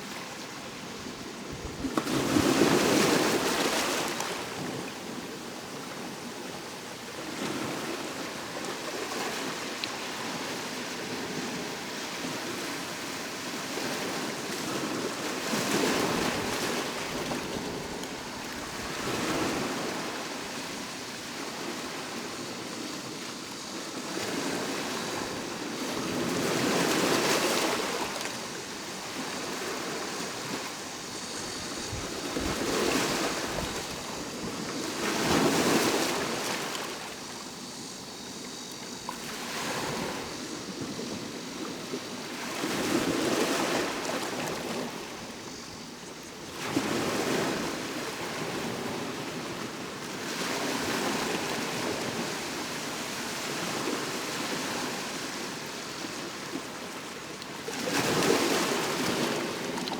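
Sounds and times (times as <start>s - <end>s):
cicada drone: 0.0s - 59.9s
sea waves breaking on shore: 0.0s - 59.9s.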